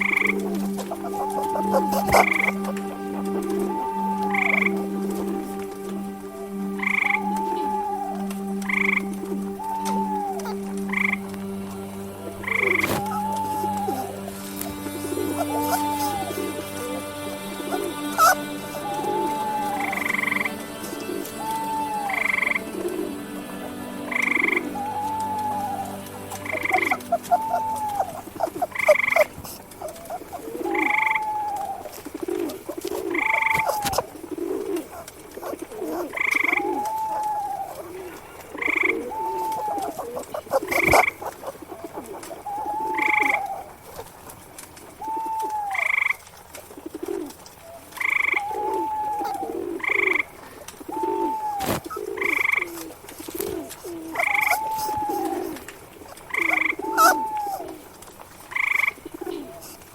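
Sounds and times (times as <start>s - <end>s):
doves cooing: 0.0s - 59.9s
frogs croaking: 0.0s - 59.9s.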